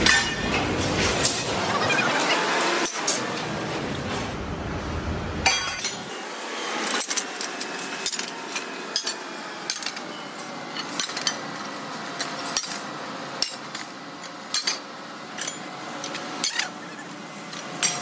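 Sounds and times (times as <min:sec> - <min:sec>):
steel rails clanking: 0:00.0 - 0:04.3, 0:05.4 - 0:18.0
steady background noise: 0:00.0 - 0:18.0.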